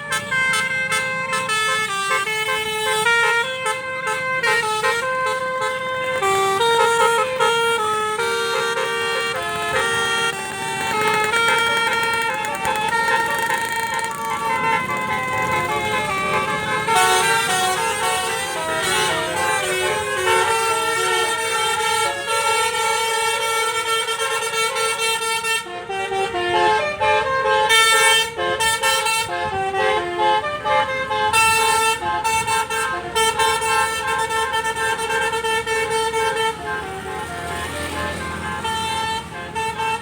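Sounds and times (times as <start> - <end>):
musical bus horn melody: 0.0 - 40.0.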